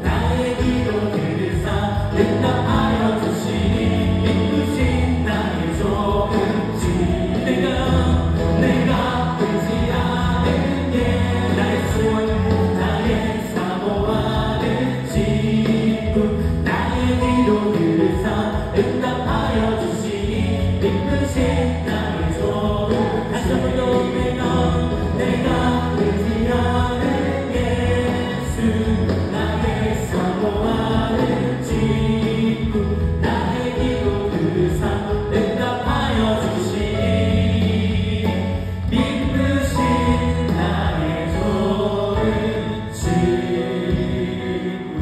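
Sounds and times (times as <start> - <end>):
acoustic guitar: 0.0 - 45.0
band with steady beat: 0.0 - 45.0
singers in unison: 0.0 - 45.0.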